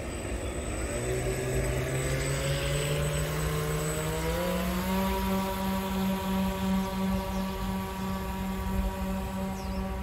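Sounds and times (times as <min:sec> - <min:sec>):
model boat motors humming: 0:00.0 - 0:10.0.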